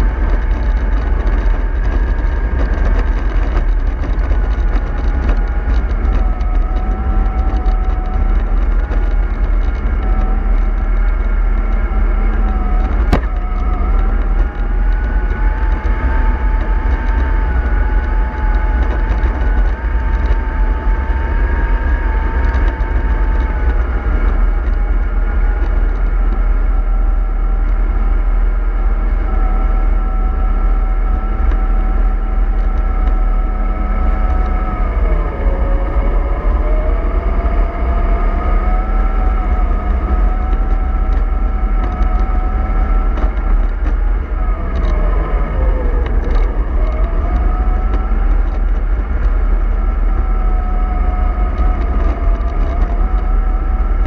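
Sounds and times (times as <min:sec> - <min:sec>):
bus engine rumble with whine: 0:00.0 - 0:54.0.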